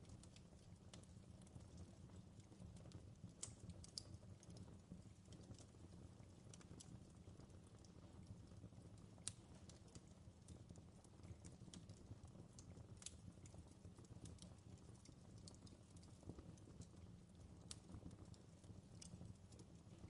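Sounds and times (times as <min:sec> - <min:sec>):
fire crackling with pops: 0:00.0 - 0:20.0.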